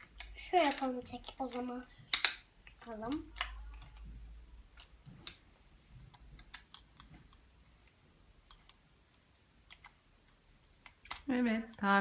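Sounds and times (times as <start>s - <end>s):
small parts clicking and tapping: 0.0s - 12.0s.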